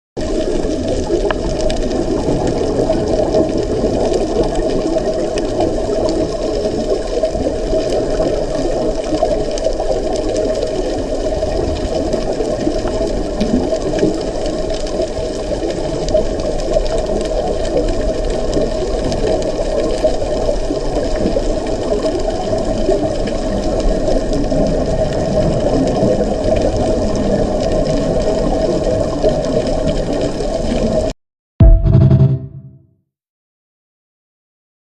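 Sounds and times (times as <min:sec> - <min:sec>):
muffled water noise: 0:00.2 - 0:32.6.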